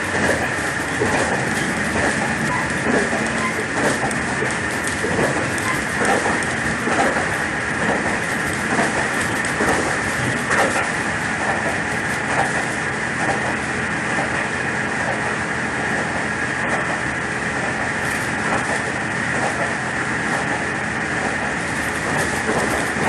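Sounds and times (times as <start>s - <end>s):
moving vehicle running noise: 0.0s - 23.0s.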